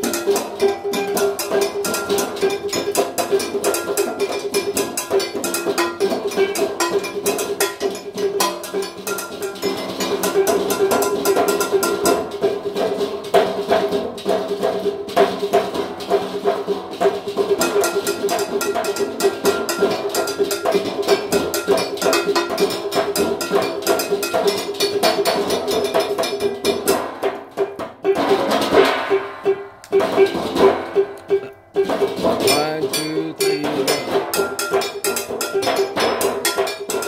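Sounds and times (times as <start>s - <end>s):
pots and pans drummed: 0.0s - 37.0s.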